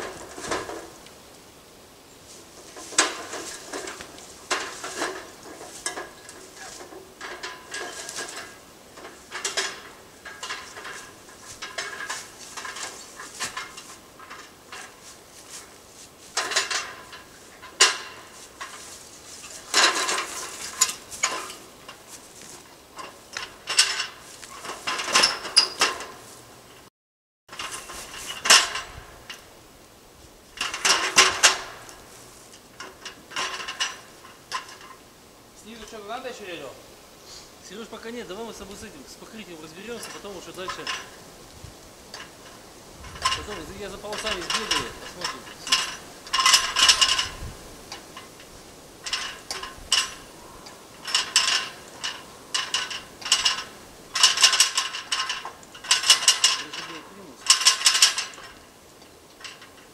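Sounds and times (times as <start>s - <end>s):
hand tools clinking and scraping: 0.0s - 1.2s, 2.1s - 26.9s, 27.5s - 29.6s, 30.5s - 36.8s, 37.4s - 59.9s.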